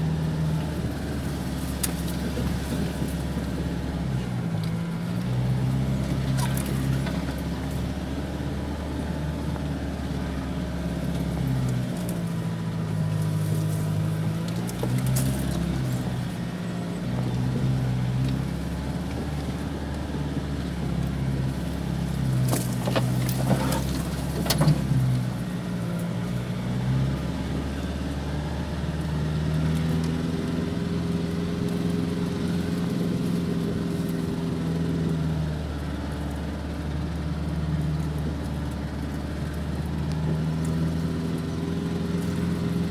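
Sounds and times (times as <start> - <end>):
diesel engine pulling slowly: 0.0 - 42.9.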